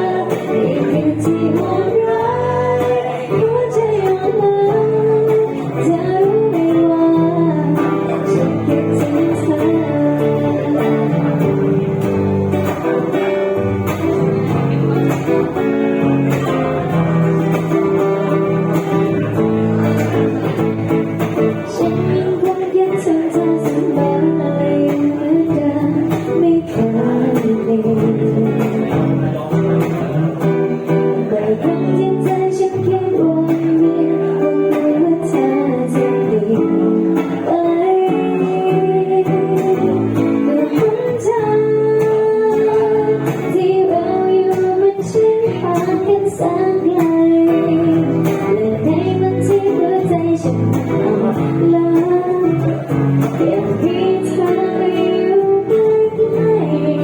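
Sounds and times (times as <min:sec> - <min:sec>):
acoustic guitar strummed: 0:00.0 - 0:57.0
person singing: 0:00.0 - 0:57.0.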